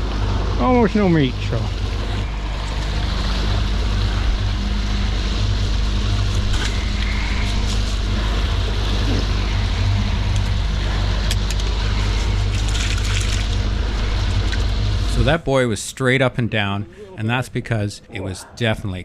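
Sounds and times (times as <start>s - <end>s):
boat motor humming: 0.0s - 17.3s.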